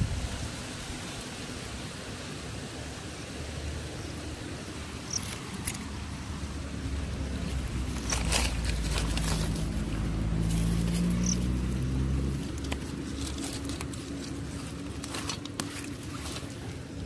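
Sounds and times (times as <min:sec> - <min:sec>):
rustling leaves and stems: 0:00.0 - 0:17.0.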